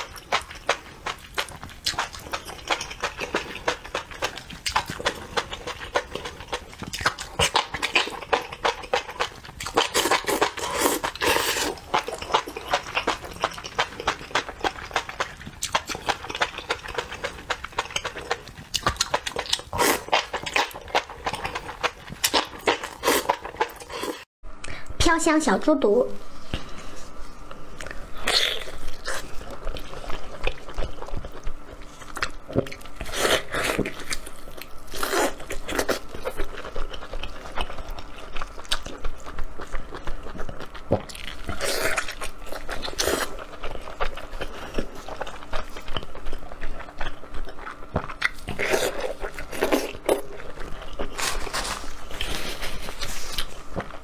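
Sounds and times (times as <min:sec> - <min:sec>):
person chewing: 0:00.0 - 0:24.3, 0:26.5 - 0:54.0.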